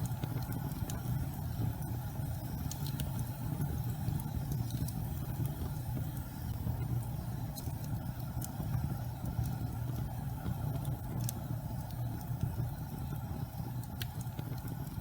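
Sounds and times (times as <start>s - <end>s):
gas fireplace flames rumbling: 0.0s - 15.0s.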